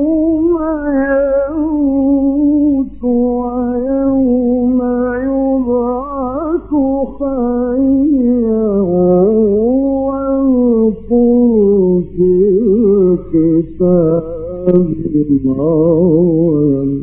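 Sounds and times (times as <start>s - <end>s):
man chanting quranic recitation: 0.0s - 17.0s.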